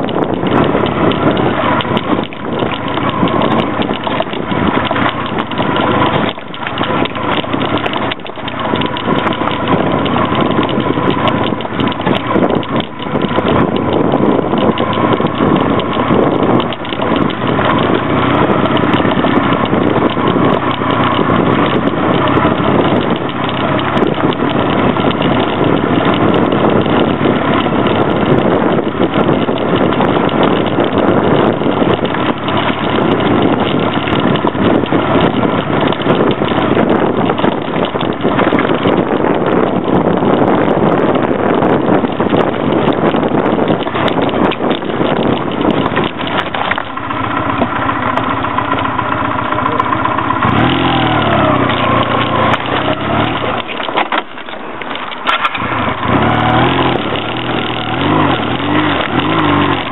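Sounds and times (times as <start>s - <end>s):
motorcycle riding over gravel: 0.0s - 59.9s.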